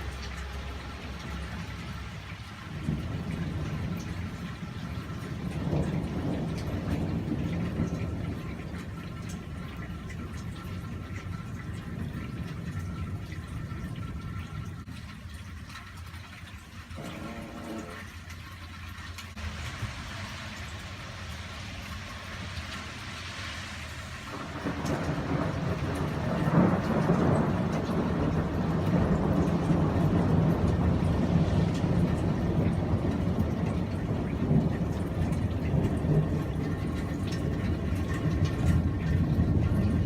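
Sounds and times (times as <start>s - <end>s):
thunder rumbling: 0.0s - 15.4s, 19.4s - 40.0s
rain falling: 0.0s - 40.0s.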